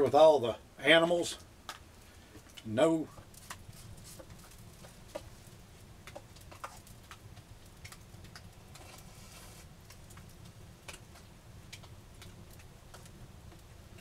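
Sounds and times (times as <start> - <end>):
campfire crackling: 0.0 - 14.0
soft hiss: 0.0 - 14.0.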